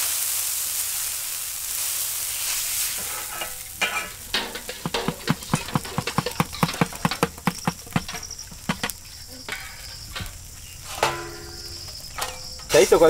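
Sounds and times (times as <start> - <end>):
hiss from hot griddle: 0.0 - 13.0.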